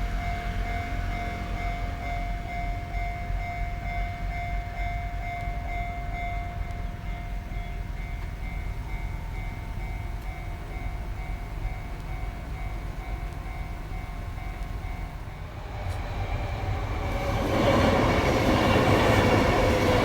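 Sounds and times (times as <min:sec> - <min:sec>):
crossing warning bell: 0:00.0 - 0:20.0
electric train rumbling: 0:00.0 - 0:20.0.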